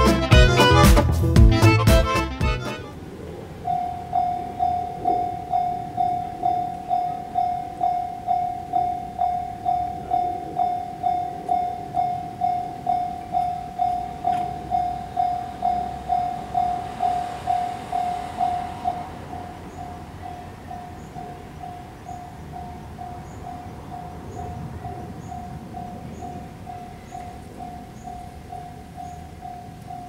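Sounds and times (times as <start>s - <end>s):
level crossing warning bell ringing: 3.6s - 30.0s.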